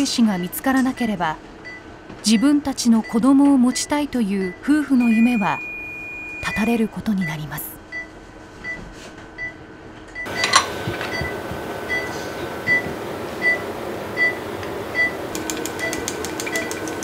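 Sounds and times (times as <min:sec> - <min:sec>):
steady equipment hum: 0:00.0 - 0:17.0
patient monitor beeping: 0:01.7 - 0:08.8, 0:10.2 - 0:17.0.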